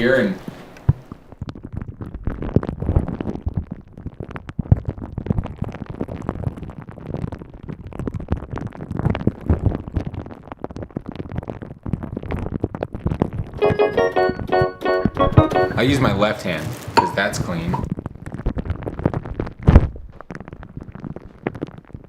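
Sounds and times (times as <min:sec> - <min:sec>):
jelly squishing against microphone: 0:00.4 - 0:13.5, 0:16.6 - 0:22.0.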